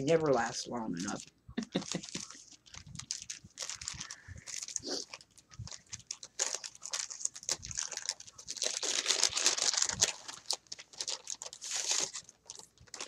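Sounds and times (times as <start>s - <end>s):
paper wrapping crinkling: 0.3s - 13.0s.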